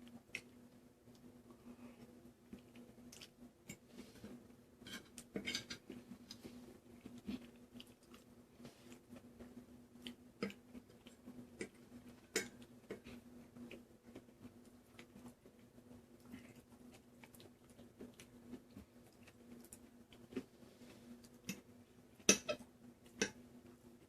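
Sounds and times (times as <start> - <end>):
faint steady hum: 0.0 - 24.0
soft chewing: 0.0 - 24.0.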